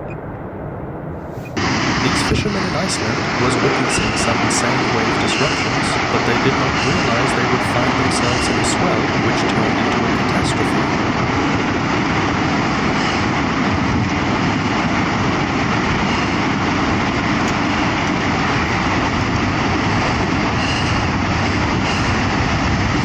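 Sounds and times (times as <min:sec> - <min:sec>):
sea in heavy swell: 0:00.0 - 0:23.0
wind rushing: 0:00.0 - 0:23.0.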